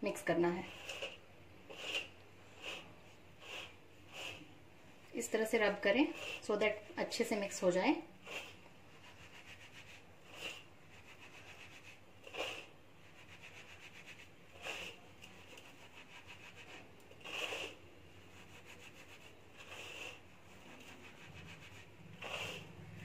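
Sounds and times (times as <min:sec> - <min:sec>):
hands rubbing grains on metal plate: 0:00.6 - 0:04.4, 0:08.3 - 0:23.0.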